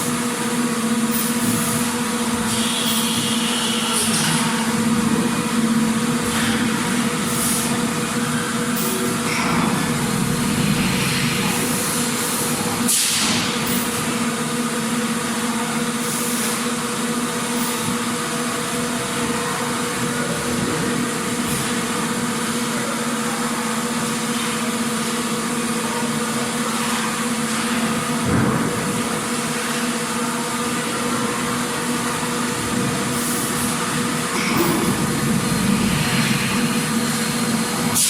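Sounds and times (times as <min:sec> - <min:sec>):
factory machinery droning: 0:00.0 - 0:38.0.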